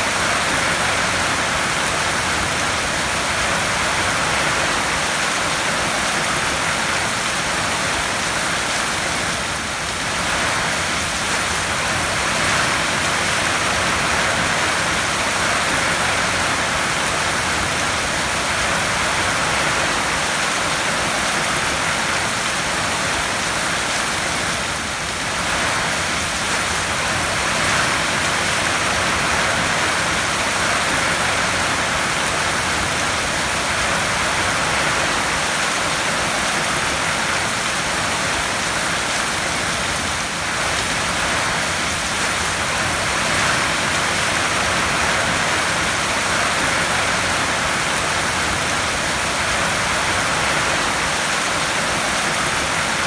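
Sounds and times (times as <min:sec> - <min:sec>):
heavy rain on a tin roof: 0:00.0 - 0:53.0.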